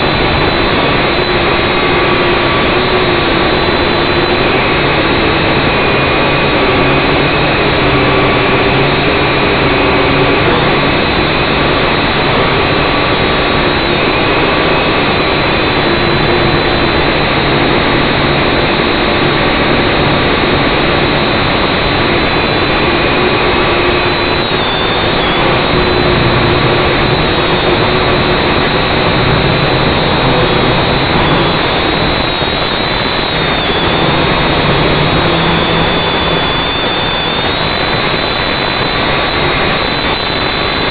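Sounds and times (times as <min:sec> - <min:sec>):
quadcopter motors whirring: 0:00.0 - 0:40.9.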